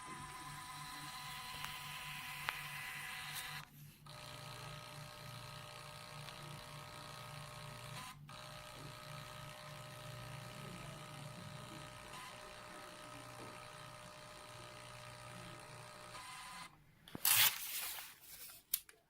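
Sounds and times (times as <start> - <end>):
printer low pulsing buzz: 0.0 - 16.7.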